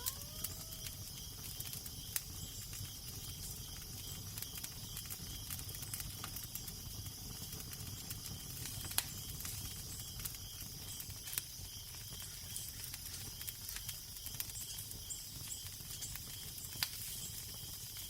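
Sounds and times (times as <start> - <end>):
fire crackling with pops: 0.0 - 18.0.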